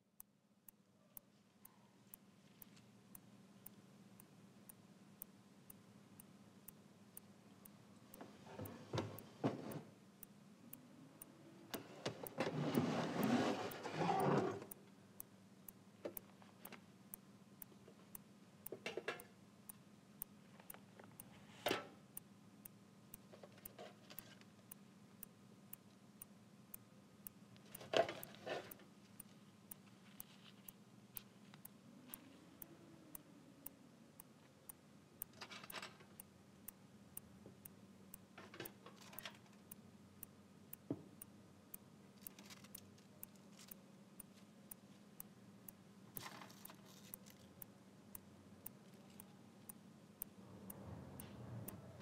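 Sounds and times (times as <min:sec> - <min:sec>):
steady ticking: 0:00.0 - 0:01.3, 0:02.1 - 0:51.9.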